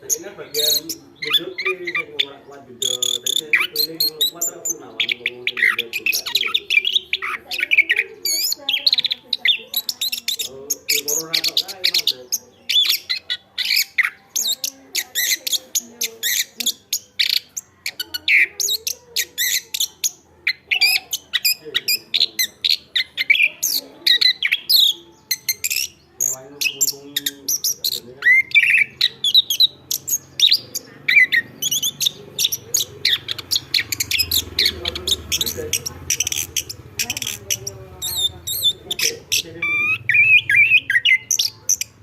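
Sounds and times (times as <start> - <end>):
thrush singing: 0.0 - 42.0.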